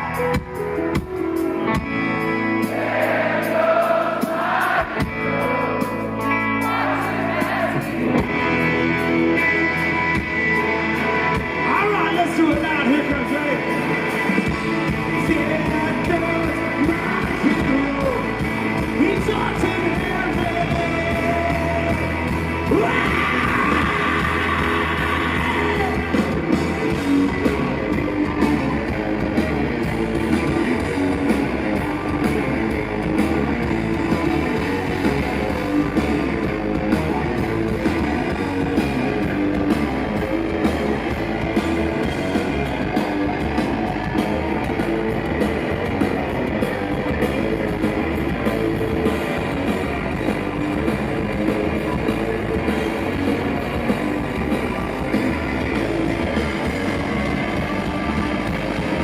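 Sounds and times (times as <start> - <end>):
drums: 0.0 - 59.0
electric guitars: 0.0 - 59.0.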